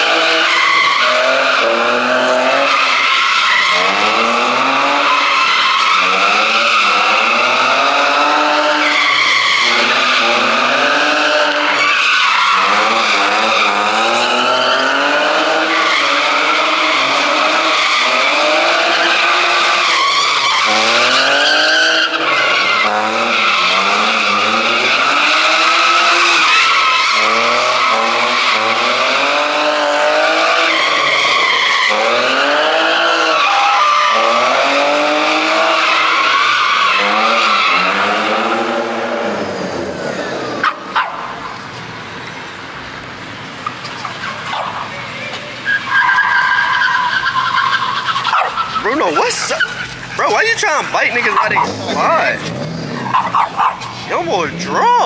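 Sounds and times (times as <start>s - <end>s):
car engine revving: 0.0s - 55.0s
tires screeching: 0.0s - 55.0s.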